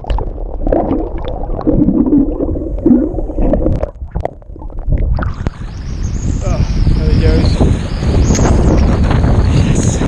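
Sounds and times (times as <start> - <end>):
underwater rushing and gurgling: 0.0 - 10.0.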